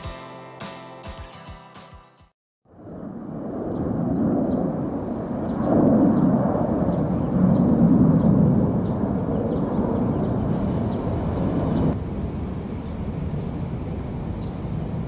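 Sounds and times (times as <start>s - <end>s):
low outdoor rumble: 2.7s - 15.0s.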